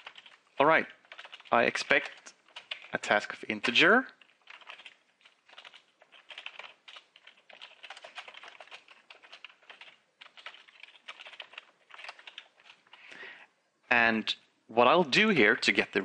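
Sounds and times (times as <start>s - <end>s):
keyboard typing: 0.0s - 13.1s.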